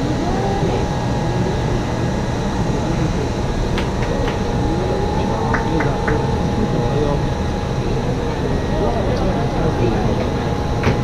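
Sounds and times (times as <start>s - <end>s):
crowd chatter: 0.0s - 11.0s
electric train humming: 0.0s - 11.0s.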